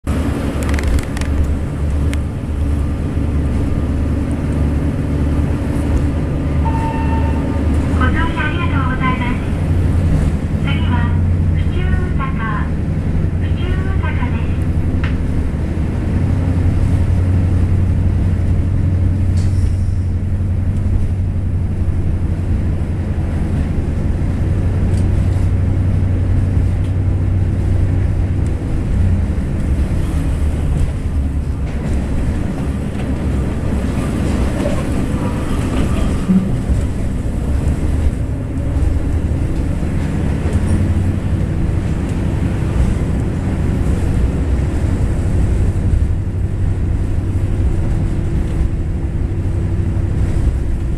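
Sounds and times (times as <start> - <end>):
diesel engine droning: 0.0 - 50.9
wheel and rail noise: 0.1 - 50.9.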